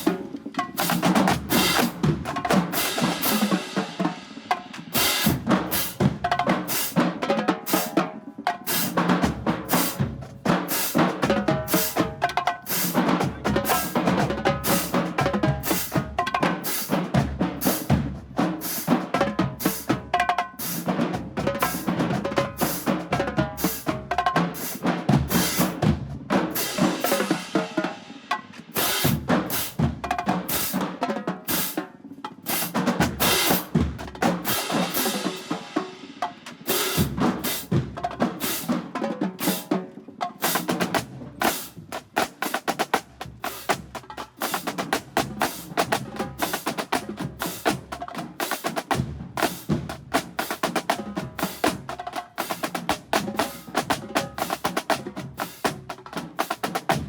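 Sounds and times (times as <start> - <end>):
snare and bass drums playing: 0.0 - 57.0.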